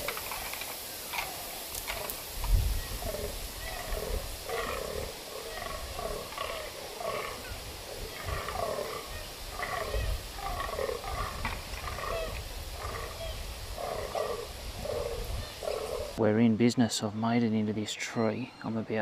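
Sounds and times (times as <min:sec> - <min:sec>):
deer bucks croaking: 0:00.0 - 0:02.2, 0:03.0 - 0:16.2.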